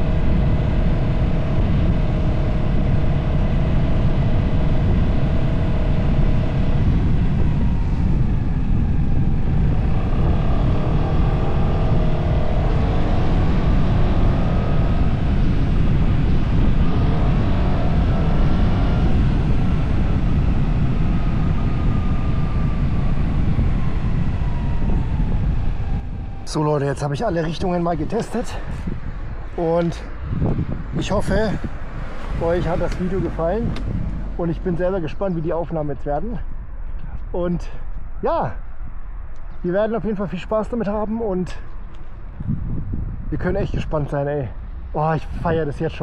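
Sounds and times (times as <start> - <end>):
wind rumble on microphone: 0.0 - 46.0.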